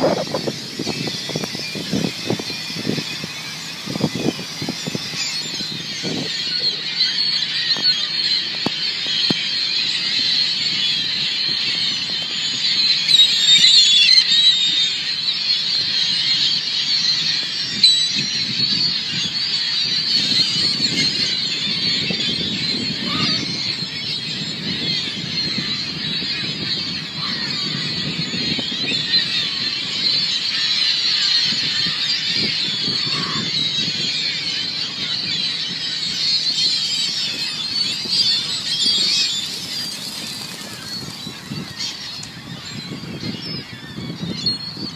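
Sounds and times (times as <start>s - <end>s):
gulls calling: 0.0s - 44.9s.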